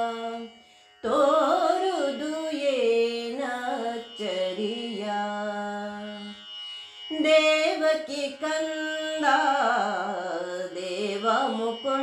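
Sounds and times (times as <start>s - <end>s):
person singing devotional song: 0.0s - 6.4s, 7.1s - 12.0s.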